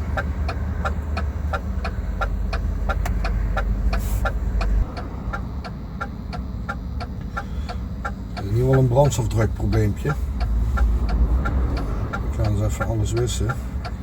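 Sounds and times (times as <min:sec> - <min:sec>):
low rumble: 0:00.0 - 0:08.4, 0:09.5 - 0:14.0
flasher relay ticking: 0:00.0 - 0:14.0.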